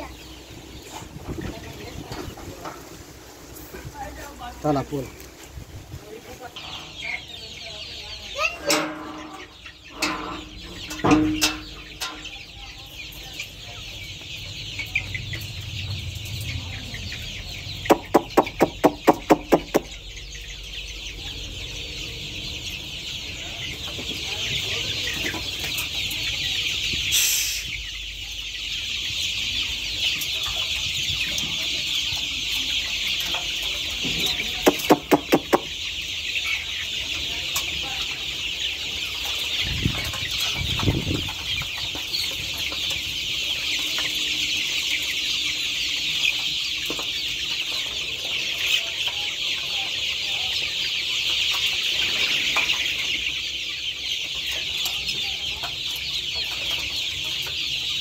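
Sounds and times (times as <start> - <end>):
chicks peeping and clucking: 0.0 - 58.0.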